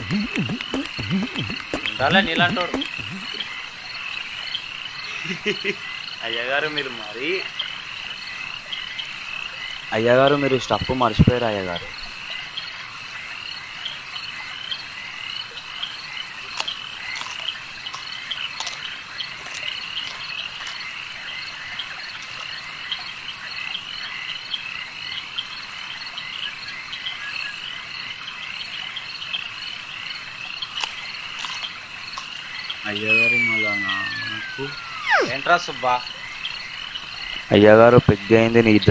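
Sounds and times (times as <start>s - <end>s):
frogs chirping: 0.0s - 38.9s
insects chirping: 0.0s - 38.9s.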